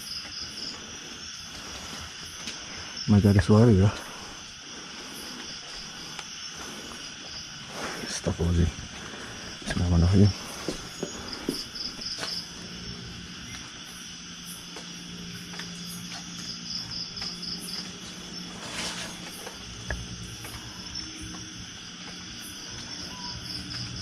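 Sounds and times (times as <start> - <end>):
insect chorus: 0.0 - 24.0
insects trilling: 0.0 - 24.0.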